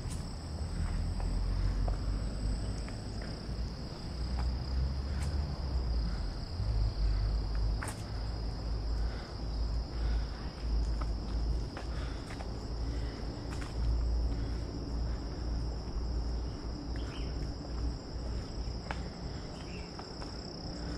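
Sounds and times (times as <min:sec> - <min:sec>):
insects droning: 0:00.0 - 0:20.9.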